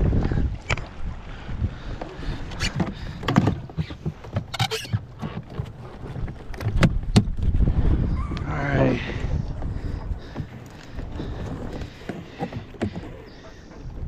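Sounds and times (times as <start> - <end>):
paddle splashes and knocks: 0.6 - 7.6, 9.6 - 14.0.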